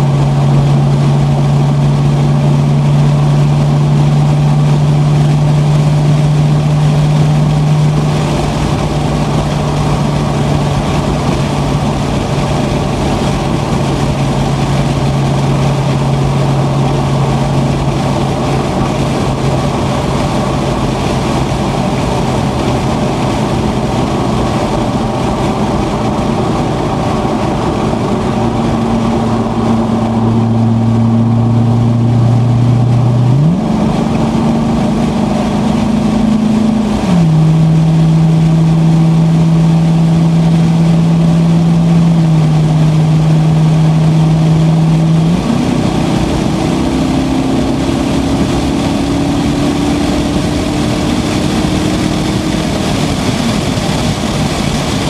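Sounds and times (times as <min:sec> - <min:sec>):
car engine at speed: 0:00.0 - 0:55.0
road and wind noise: 0:00.0 - 0:55.0.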